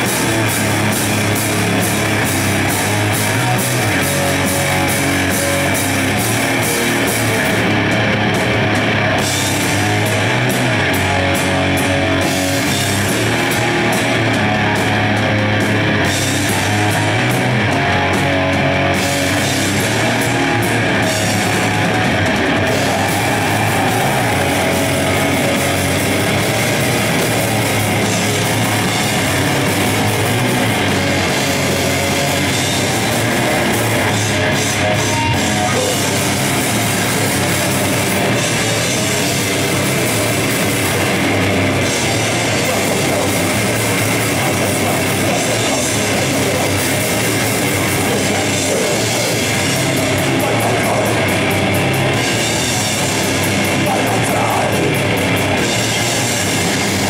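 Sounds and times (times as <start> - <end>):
death metal band playing: 0.0 - 57.0.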